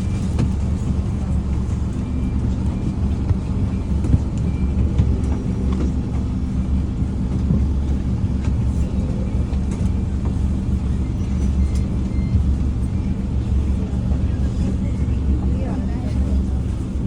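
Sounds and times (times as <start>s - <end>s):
bus diesel engine droning: 0.0s - 17.0s.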